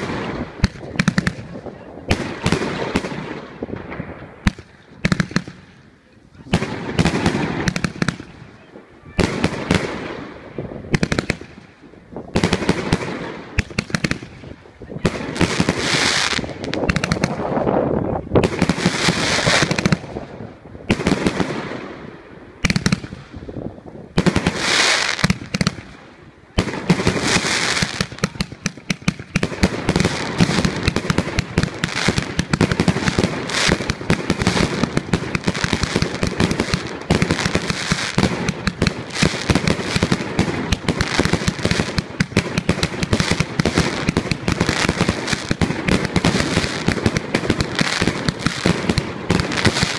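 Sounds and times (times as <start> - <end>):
fireworks cake firing: 0.0 - 49.9.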